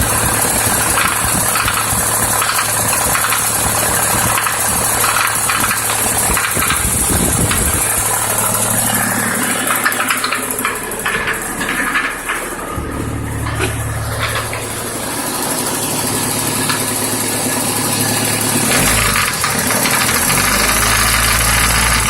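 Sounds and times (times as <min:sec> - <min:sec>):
diesel engine idling: 0:00.0 - 0:22.0
engine ticking knock: 0:00.0 - 0:22.0.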